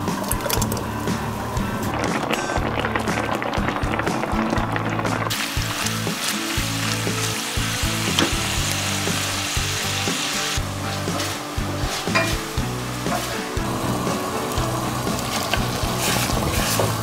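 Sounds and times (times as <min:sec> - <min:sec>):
eggs sizzling in a pan: 0:00.0 - 0:17.0.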